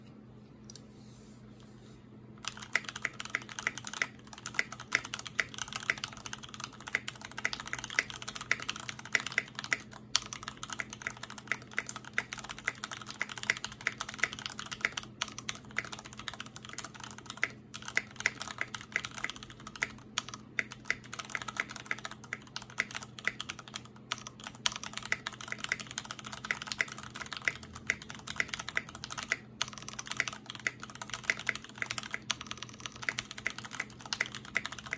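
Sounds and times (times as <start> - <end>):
mechanical keyboard keys clacking: 2.4 - 34.9.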